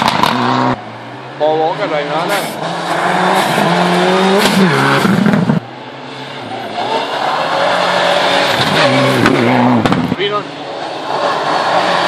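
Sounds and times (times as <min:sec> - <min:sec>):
rally car approaching with gear changes: 0:00.0 - 0:12.0
rally car passing at speed: 0:00.0 - 0:12.0.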